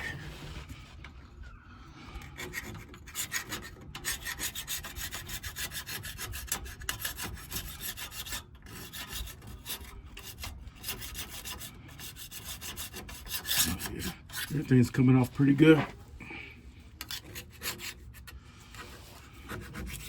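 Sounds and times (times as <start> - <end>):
hand scraper scraping metal: 2.2 - 16.0, 17.0 - 20.0.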